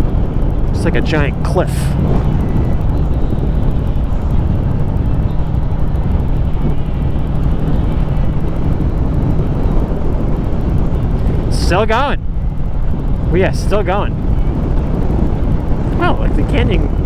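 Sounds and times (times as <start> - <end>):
motorcycle engine rumbling: 0.0 - 17.0
wind noise on microphone: 0.0 - 17.0.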